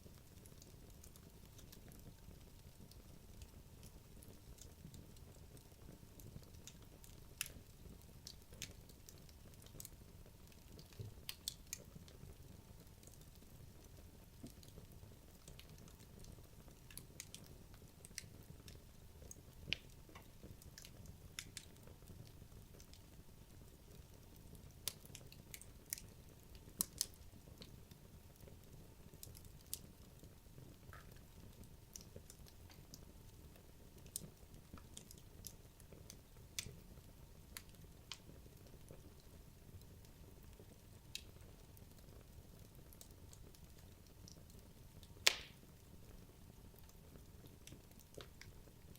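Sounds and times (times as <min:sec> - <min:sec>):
fire crackling and popping: 0:00.0 - 0:48.9
low background hiss: 0:00.0 - 0:48.9.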